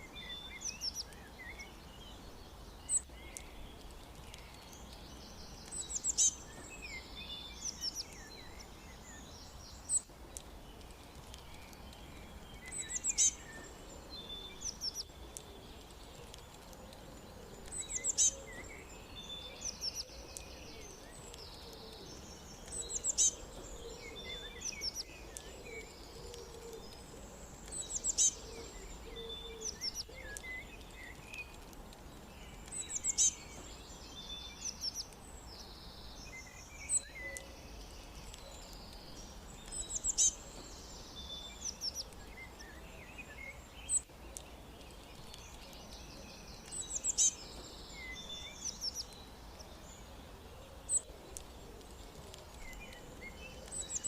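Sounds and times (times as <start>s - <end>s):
songbirds chirping: 0.0s - 54.0s
steady background hiss: 0.0s - 54.0s.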